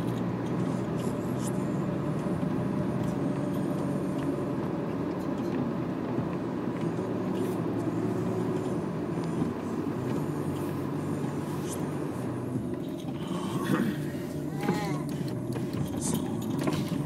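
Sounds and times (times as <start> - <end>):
car engine drone: 0.0 - 17.0
road rumble: 0.0 - 17.0.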